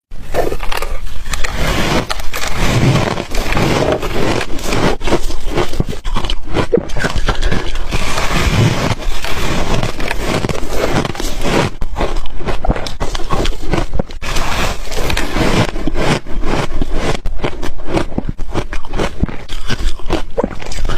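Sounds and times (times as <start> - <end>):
freezer frost crunching: 0.3 - 20.9.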